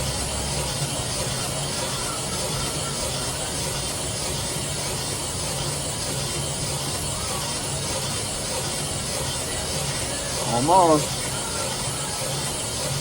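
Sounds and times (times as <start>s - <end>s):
shop machine hissing and humming: 0.0s - 13.0s.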